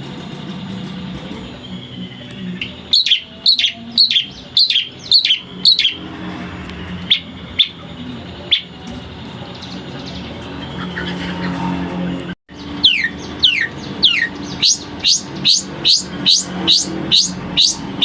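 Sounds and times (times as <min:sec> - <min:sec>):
shrike calling: 0:00.0 - 0:11.9, 0:12.5 - 0:18.0.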